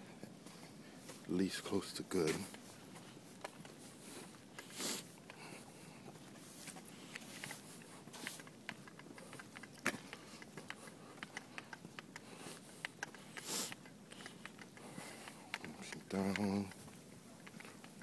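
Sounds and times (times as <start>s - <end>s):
footsteps on sidewalk: 0.0s - 18.0s.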